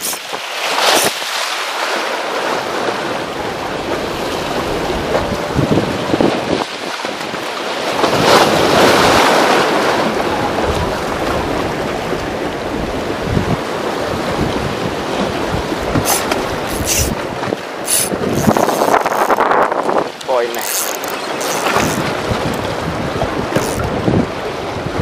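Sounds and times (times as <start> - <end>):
waves splashing against concrete: 0.0 - 25.0
wind buffeting microphone: 3.5 - 7.4, 8.0 - 25.0.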